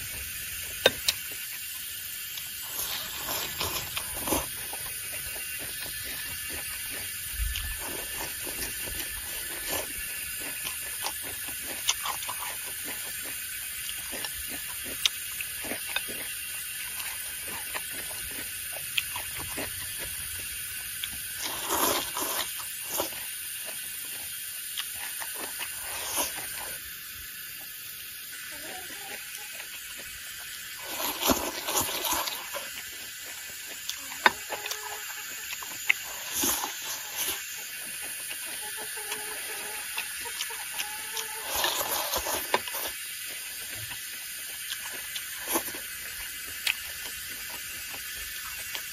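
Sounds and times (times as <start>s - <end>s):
chewing and mouth noises: 0.0s - 48.9s
outdoor background hiss: 0.0s - 48.9s.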